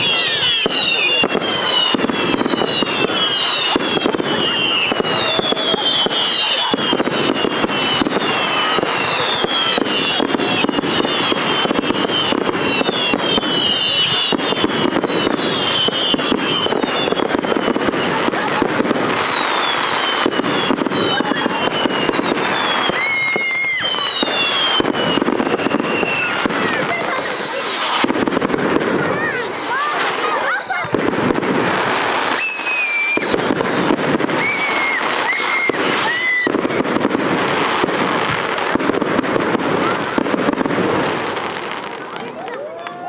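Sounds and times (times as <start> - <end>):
fireworks crackling and popping: 0.0 - 43.0
fireworks whistles falling in pitch: 0.0 - 43.0.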